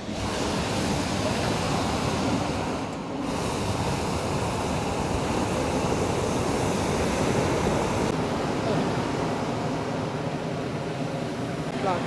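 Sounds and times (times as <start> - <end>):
propane burner blast: 0.0 - 10.0.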